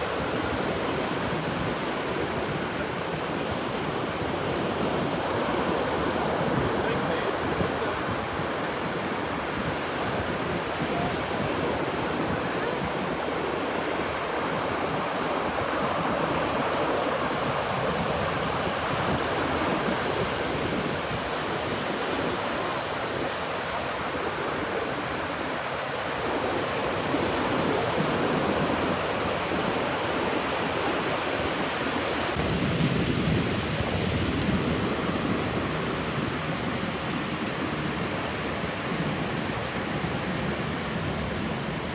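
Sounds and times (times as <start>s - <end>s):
ocean surf: 0.0s - 41.9s
wind on microphone: 0.0s - 41.9s.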